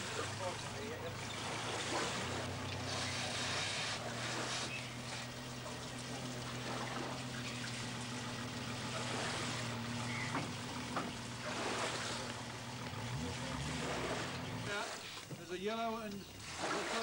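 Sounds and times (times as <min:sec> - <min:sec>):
vehicle engine running: 0:00.0 - 0:15.4.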